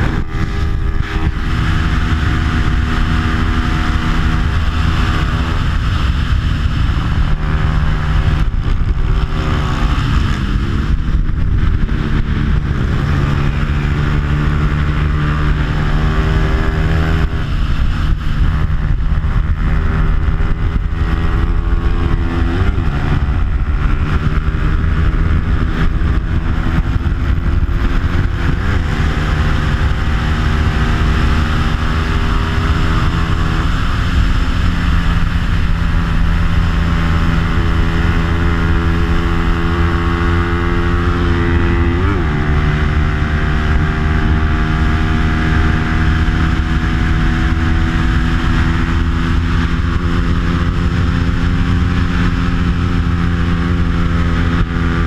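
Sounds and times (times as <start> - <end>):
motorcycle engine running hard: 0.0 - 55.0
wind rushing over microphone: 0.0 - 55.0.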